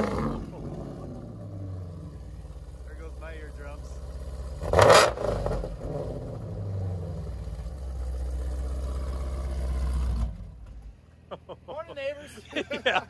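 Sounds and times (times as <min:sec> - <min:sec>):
car engine revving and idling: 0:00.0 - 0:11.3.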